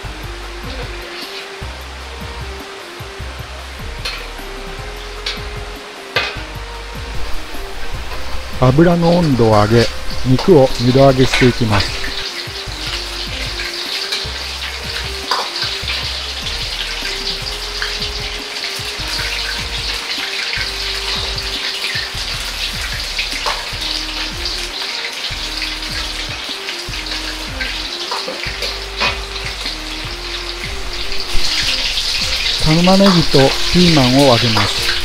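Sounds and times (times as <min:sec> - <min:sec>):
meat deep-frying in oil: 0:00.0 - 0:35.0.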